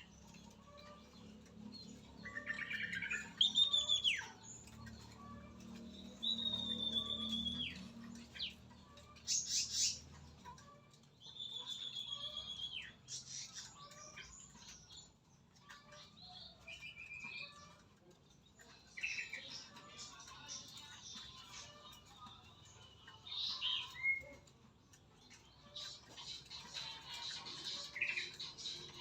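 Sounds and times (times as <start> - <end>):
songbird chirps and twitters: 0.0 - 29.0.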